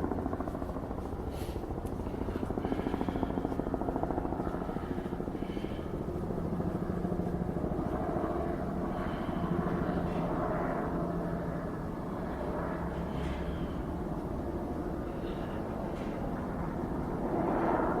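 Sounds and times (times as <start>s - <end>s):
engine running with pulsing beat: 0.0s - 16.1s.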